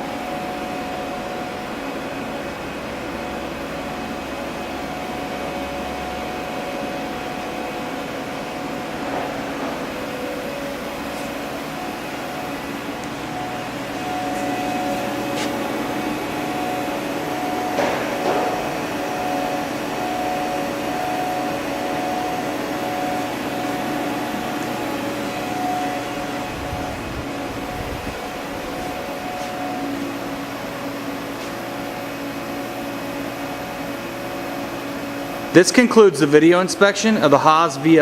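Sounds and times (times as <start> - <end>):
machining center humming: 0.0 - 38.0.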